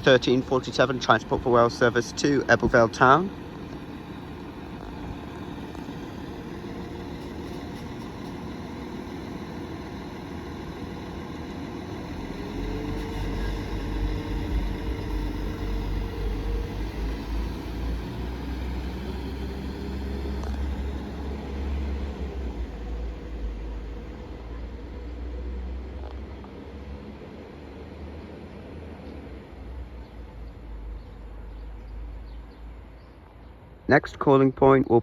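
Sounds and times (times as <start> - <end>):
train diesel engines throttling up: 0.0 - 34.3.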